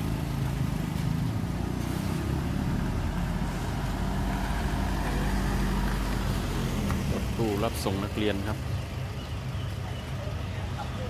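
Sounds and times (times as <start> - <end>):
van passing by: 0.0 - 11.0.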